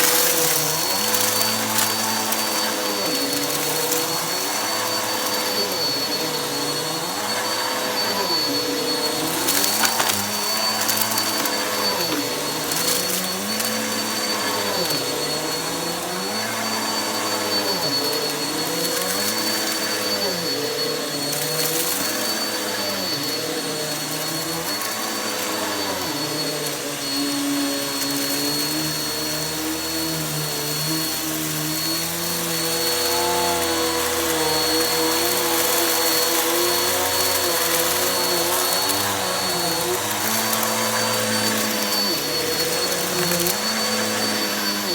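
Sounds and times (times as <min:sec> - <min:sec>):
vacuum cleaner running over carpet: 0:00.0 - 0:44.9.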